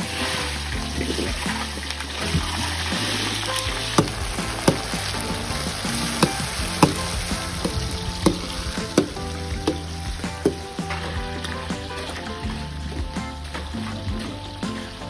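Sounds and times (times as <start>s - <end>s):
oil sizzling in a wok: 0.0s - 15.0s.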